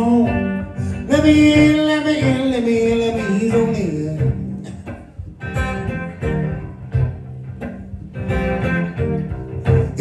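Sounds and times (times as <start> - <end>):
blues guitar riff: 0.0 - 10.0.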